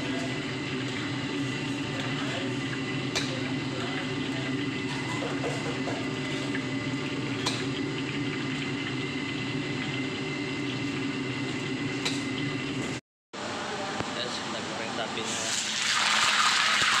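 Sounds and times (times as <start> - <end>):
hot oil bubbling: 0.0 - 13.0, 15.3 - 17.0.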